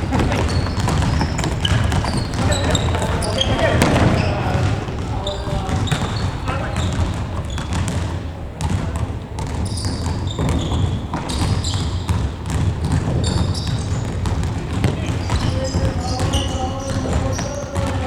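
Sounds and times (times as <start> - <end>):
players calling out: 0.0 - 12.0, 13.0 - 18.0
ball kicked and bouncing: 0.0 - 18.0
shoes squeaking on floor: 0.0 - 18.0.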